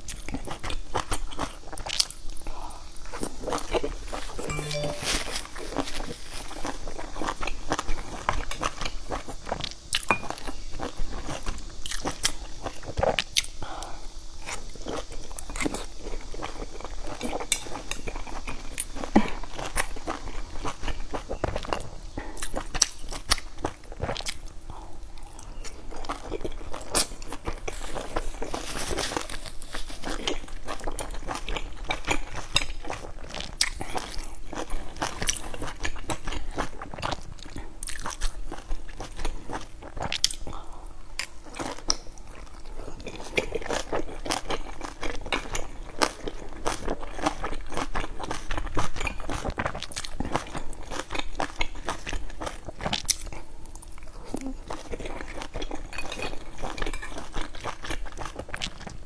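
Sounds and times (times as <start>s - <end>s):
chewing soft food: 0.0s - 4.9s, 5.6s - 59.0s.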